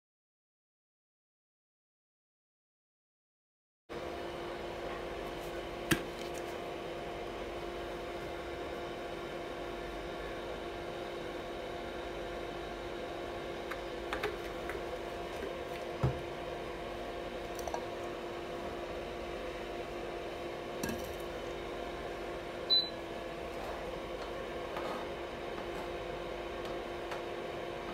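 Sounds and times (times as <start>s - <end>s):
steady background hum: 3.9s - 27.9s.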